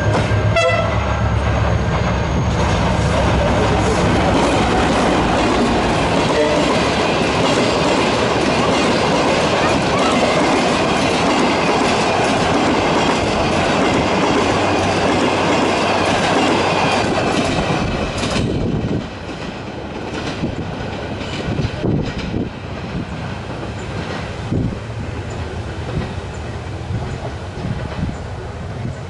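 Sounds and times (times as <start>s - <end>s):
train rumble: 0.0s - 29.0s
train wheels clattering on rails: 0.0s - 29.0s.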